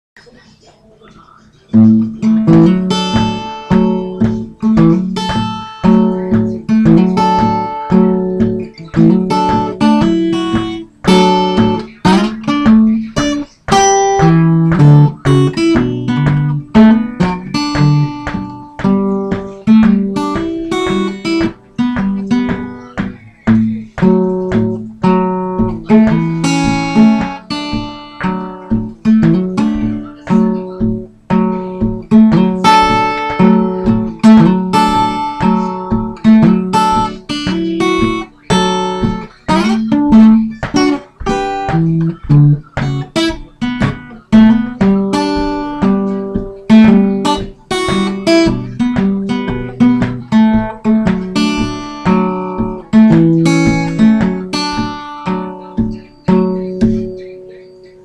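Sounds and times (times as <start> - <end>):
fingerpicked acoustic guitar: 0.2 - 58.0.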